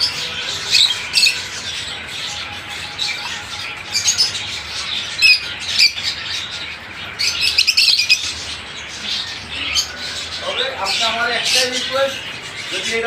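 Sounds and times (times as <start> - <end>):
birds squawking and chirping: 0.0 - 13.0.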